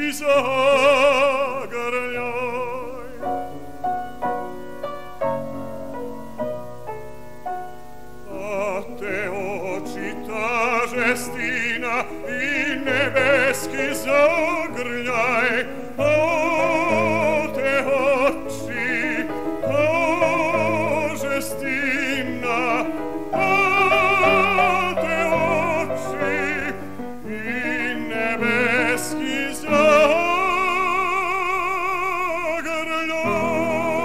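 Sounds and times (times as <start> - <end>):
man singing operatically: 0.0 - 3.8, 8.2 - 34.0.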